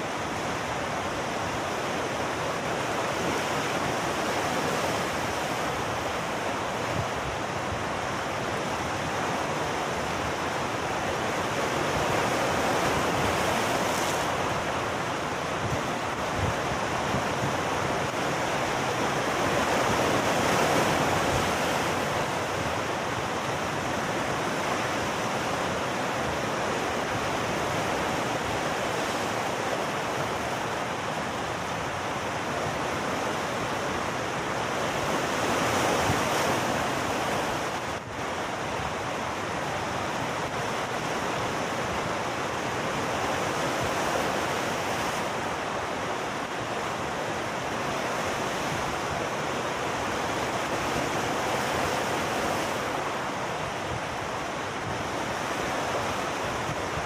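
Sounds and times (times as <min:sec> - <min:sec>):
sea surf breaking over rocks: 0:00.0 - 0:57.0.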